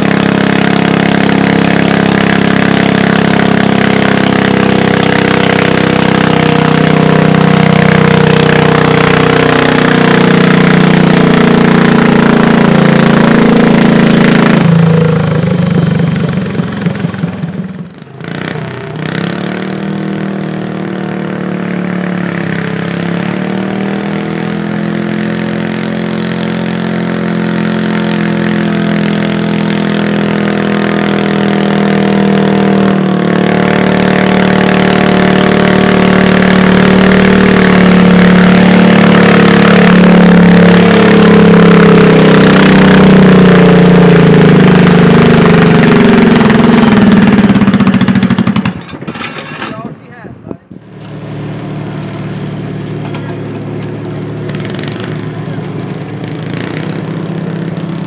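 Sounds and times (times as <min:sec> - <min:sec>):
garden tractor engine under load: 0:00.0 - 0:58.0
second garden tractor engine: 0:00.0 - 0:58.0.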